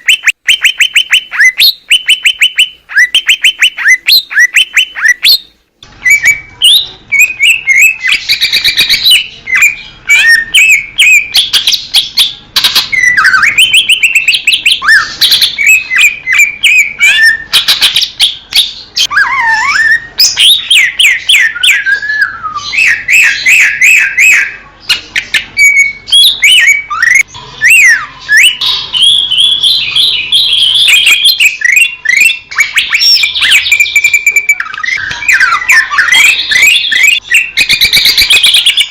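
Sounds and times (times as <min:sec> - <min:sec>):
bird singing whistled song: 0:00.0 - 0:38.9.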